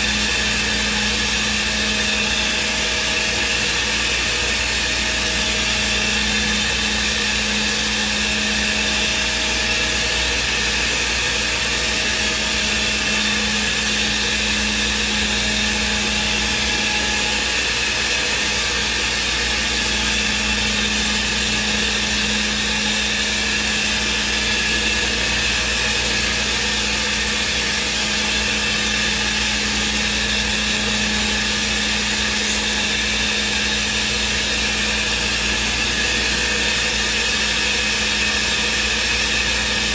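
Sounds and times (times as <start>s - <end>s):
cnc router spindle whine: 0.0s - 39.9s
machine noise: 0.0s - 39.9s.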